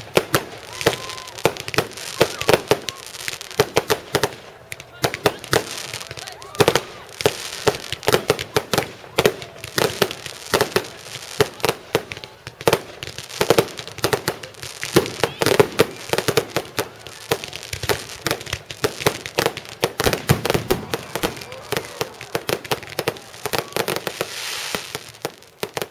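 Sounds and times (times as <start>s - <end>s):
fireworks bangs and crackles: 0.0s - 25.9s.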